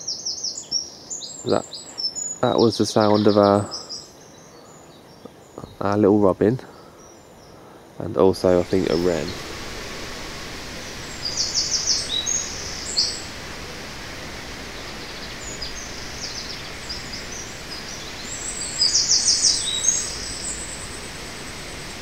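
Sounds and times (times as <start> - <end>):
songbirds singing trilled song: 0.0 - 22.0
steady hiss: 0.0 - 22.0.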